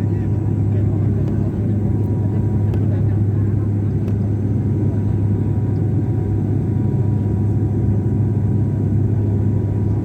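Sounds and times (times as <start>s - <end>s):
aircraft hum and rumble: 0.0s - 10.0s.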